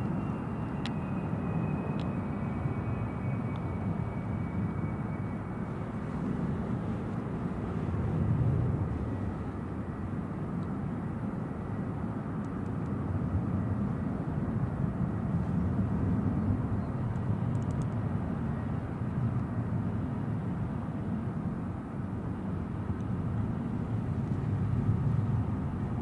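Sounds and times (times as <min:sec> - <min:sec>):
distant jet airliner rumble: 0:00.0 - 0:26.0
wind buffeting microphone: 0:00.0 - 0:26.0.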